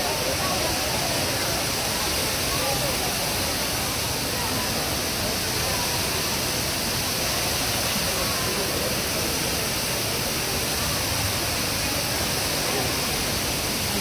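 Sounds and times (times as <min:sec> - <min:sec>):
indoor waterfall rushing: 0:00.0 - 0:14.0.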